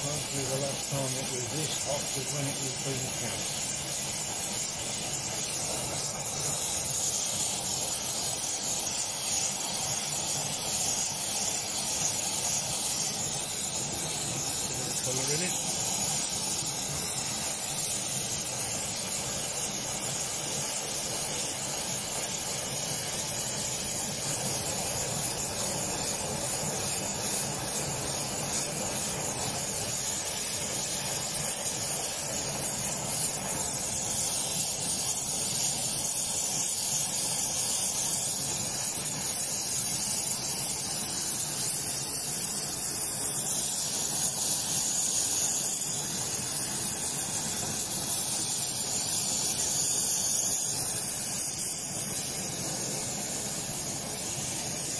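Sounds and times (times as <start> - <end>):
gas torch hissing: 0.0 - 54.9.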